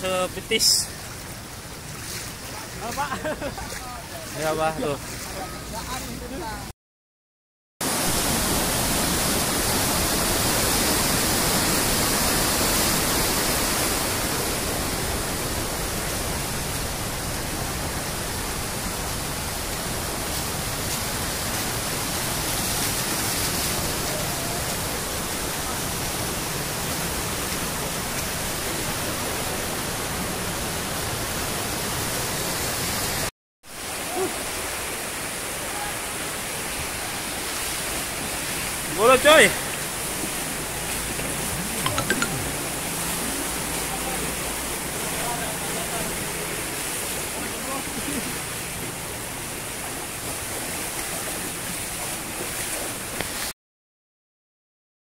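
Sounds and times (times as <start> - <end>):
floodwater rushing through sluice gates: 0.0 - 6.7, 7.8 - 53.5.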